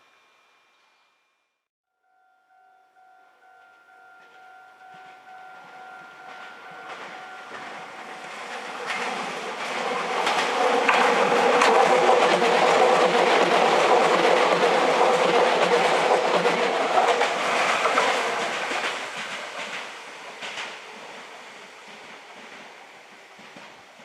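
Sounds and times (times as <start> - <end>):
electric train running over rails: 3.4 - 24.0.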